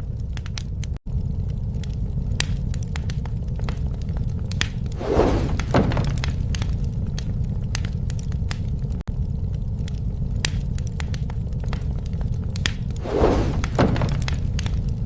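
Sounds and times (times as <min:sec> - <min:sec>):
burning wood crunching: 0:00.0 - 0:15.0
campfire wood crackling: 0:00.0 - 0:15.0.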